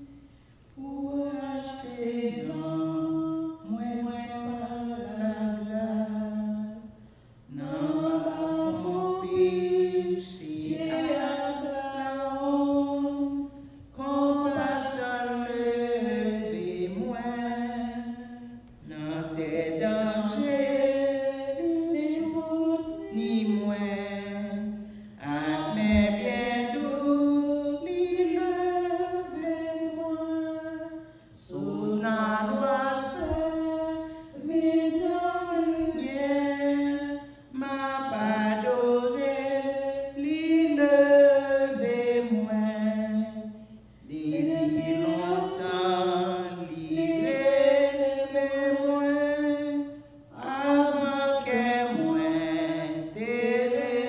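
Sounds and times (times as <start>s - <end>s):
woman singing a hymn unaccompanied: 0.0s - 54.0s.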